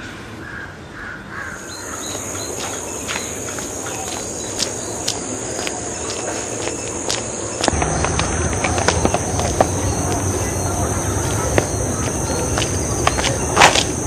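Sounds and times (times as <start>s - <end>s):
high-pitched insect drone: 1.6s - 14.0s
boots stepping on dirt road: 2.2s - 14.0s.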